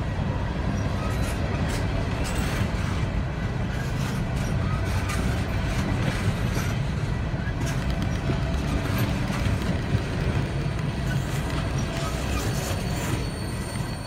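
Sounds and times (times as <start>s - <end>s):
steel wheels rumbling on track: 0.0s - 14.0s.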